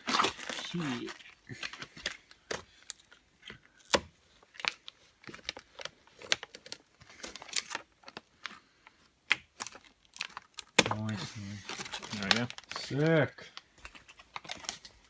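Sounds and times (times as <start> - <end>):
hands working vinyl film: 0.0 - 15.0.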